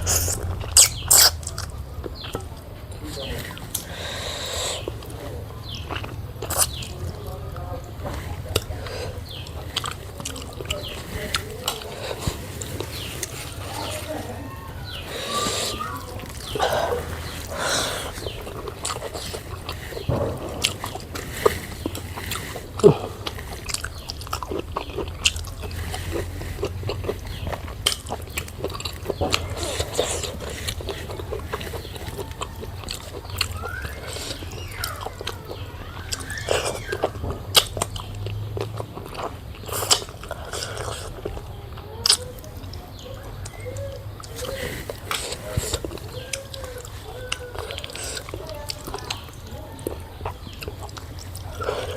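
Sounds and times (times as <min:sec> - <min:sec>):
person chewing: 0:00.0 - 0:51.9.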